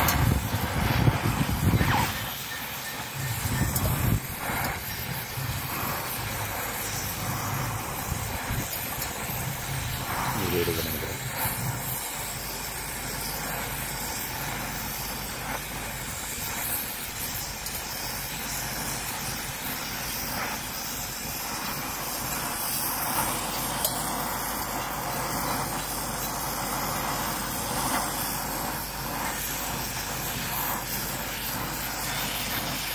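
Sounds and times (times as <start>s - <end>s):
gas torch flame hissing: 0.0s - 32.9s.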